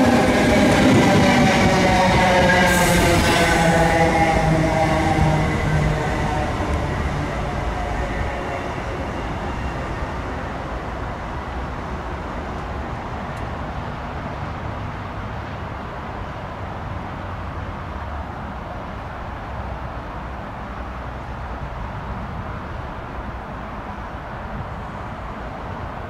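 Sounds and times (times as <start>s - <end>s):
electric train hum and wheel rumble: 0.0s - 26.0s.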